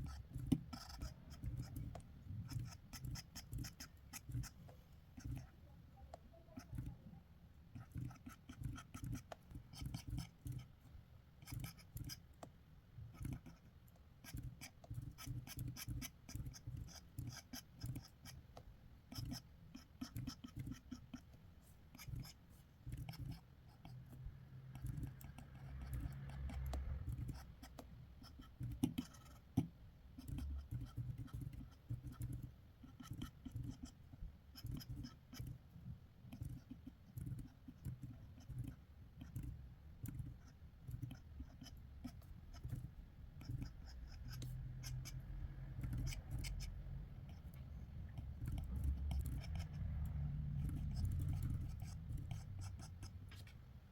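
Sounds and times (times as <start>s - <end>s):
drawing tool scratching paper: 0.0s - 5.6s, 7.7s - 10.7s, 11.4s - 12.3s, 13.1s - 18.5s, 19.1s - 49.8s, 50.6s - 53.6s.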